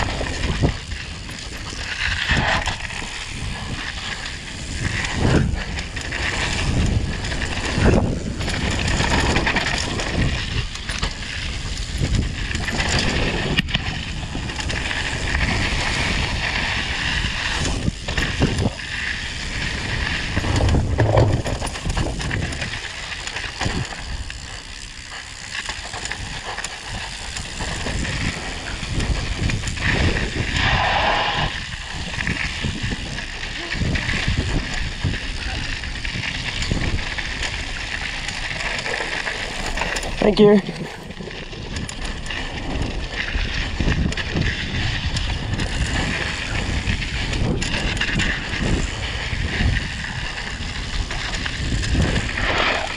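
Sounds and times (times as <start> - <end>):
bike rattling and knocking: 0.0 - 52.9
bike tyres on dirt: 0.0 - 52.9.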